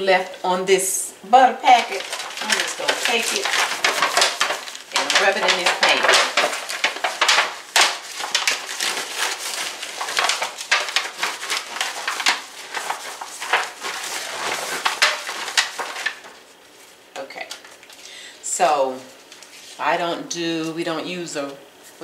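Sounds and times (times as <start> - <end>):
foil pan crinkling: 1.5 - 22.0.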